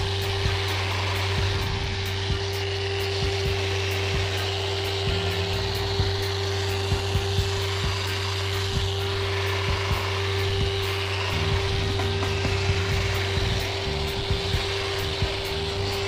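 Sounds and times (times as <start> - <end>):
orbital sander running: 0.0 - 16.0
sanding pad rubbing hiss: 0.0 - 16.0.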